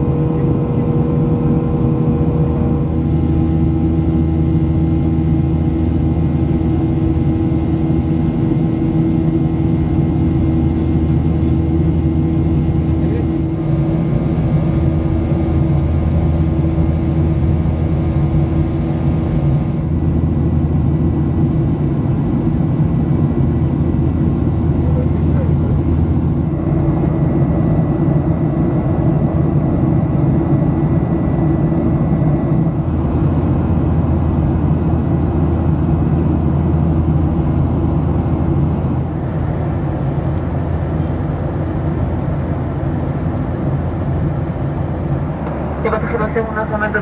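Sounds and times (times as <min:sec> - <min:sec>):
airplane cabin engine drone: 0:00.0 - 0:47.0.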